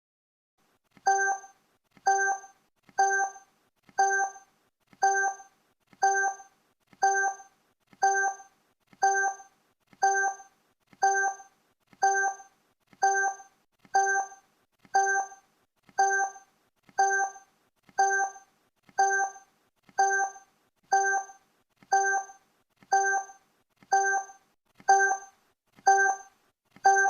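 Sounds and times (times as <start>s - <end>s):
timer tick blip: 1.0s - 15.4s, 16.0s - 27.0s.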